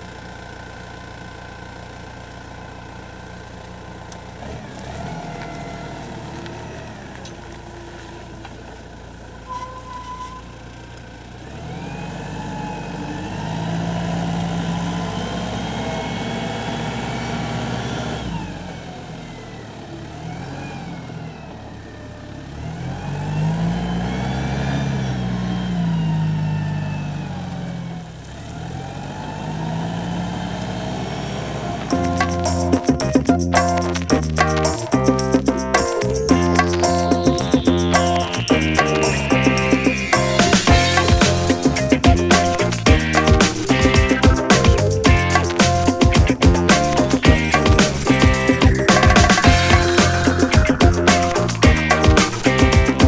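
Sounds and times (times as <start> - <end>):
diesel engine revving: 4.1 - 53.0.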